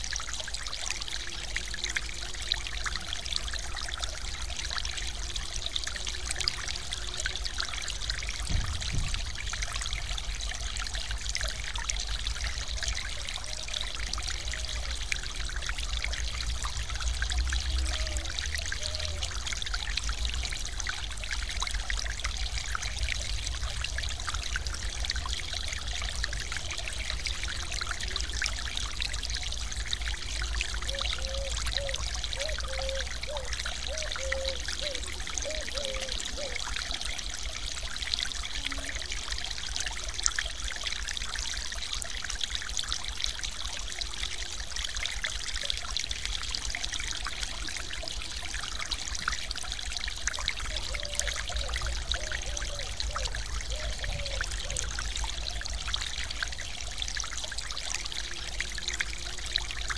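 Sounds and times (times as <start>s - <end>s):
water pouring over weir: 0.0s - 59.9s.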